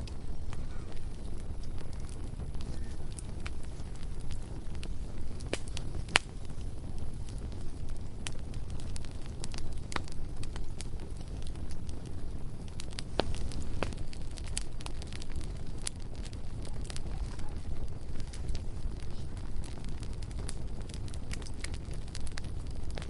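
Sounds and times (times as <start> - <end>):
bonfire crackling and popping: 0.0 - 23.0
steady low rumble: 0.0 - 23.0.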